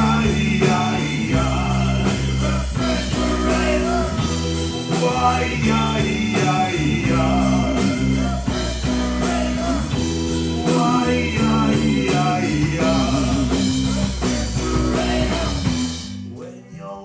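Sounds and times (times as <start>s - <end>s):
rock band playing live: 0.0s - 16.4s
bass line: 0.0s - 16.8s.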